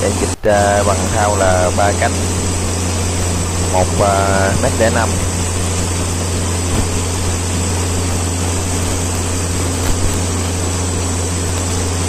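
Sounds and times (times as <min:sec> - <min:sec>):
boat diesel engine drone: 0:00.0 - 0:12.0
wind: 0:00.0 - 0:12.0.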